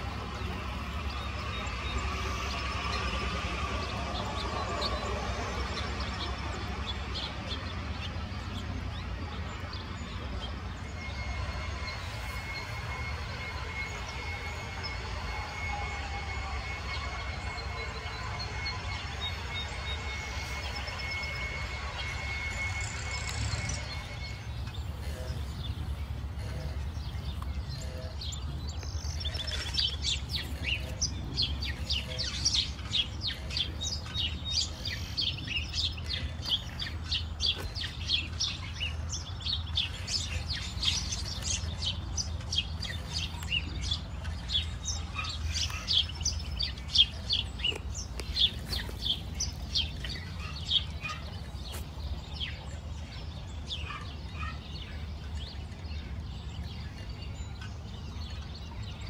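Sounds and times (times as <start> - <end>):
birds chirping: 0.0 - 59.0
low steady rumble: 0.0 - 59.0.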